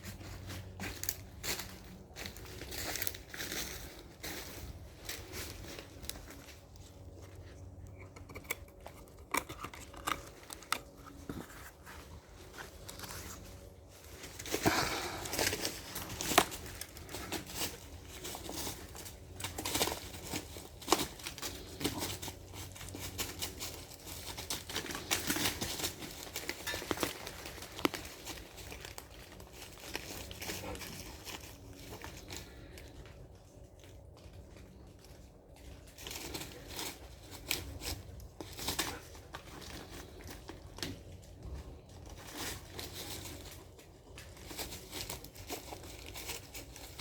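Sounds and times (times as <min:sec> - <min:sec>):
rustling and crinkling: 0:00.0 - 0:47.0.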